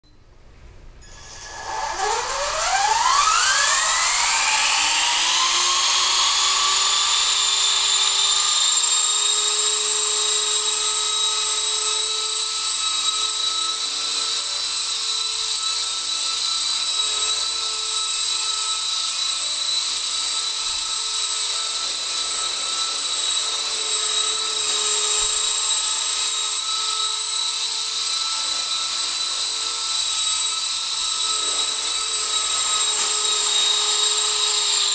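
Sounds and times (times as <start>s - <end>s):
rc helicopter motor whine: 1.0s - 34.9s.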